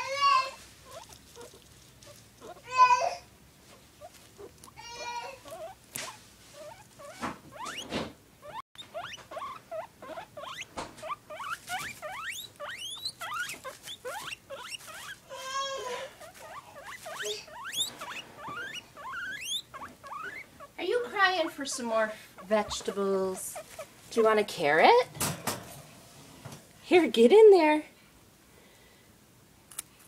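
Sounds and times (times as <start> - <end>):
guinea pig squeaking: 0.1 - 3.0, 3.7 - 24.8.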